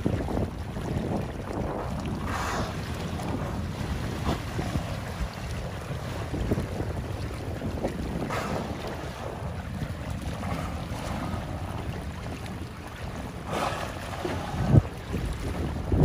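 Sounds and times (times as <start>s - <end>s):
wind buffeting microphone: 0.0s - 16.0s
whales blowing: 0.2s - 16.0s.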